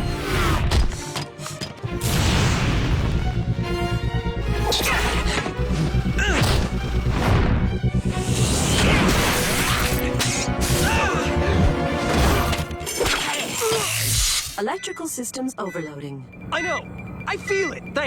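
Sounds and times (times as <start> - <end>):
action music: 0.0 - 18.0.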